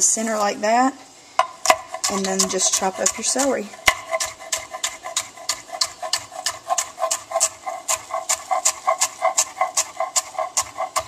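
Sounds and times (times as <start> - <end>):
knife chopping on cutting board: 1.4 - 11.0.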